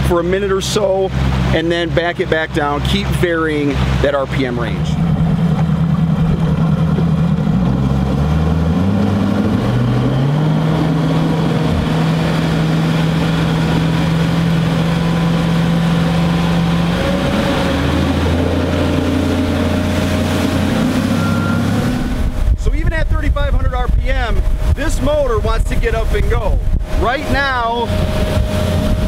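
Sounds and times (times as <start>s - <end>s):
outboard motor revving up: 0.0s - 29.0s.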